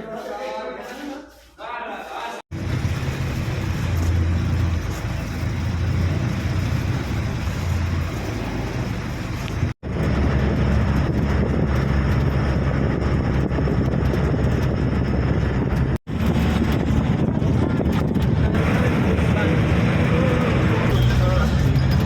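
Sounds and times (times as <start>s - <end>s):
bus engine and road noise: 2.5s - 22.0s.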